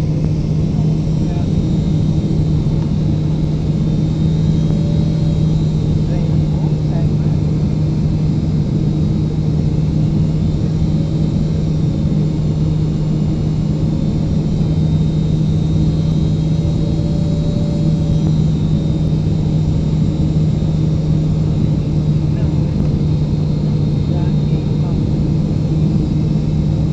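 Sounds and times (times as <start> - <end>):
constant low hum: 0.0 - 26.9
jet engine cabin drone: 0.0 - 26.9.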